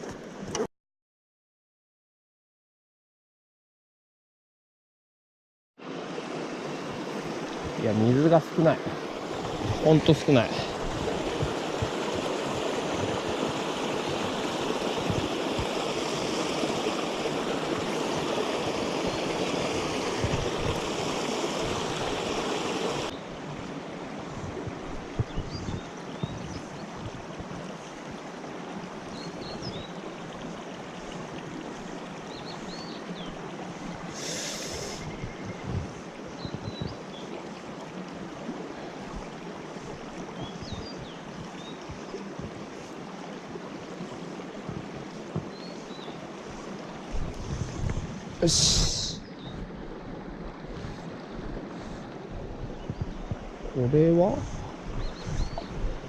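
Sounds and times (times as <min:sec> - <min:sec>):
stream flowing over rocks: 0:05.8 - 0:56.0.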